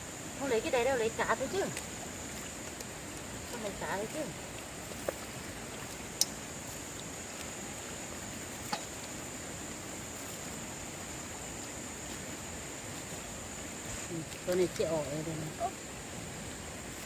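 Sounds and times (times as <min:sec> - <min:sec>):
flooding stream rushing: 0:00.0 - 0:17.0
high-pitched hiss: 0:00.0 - 0:17.0.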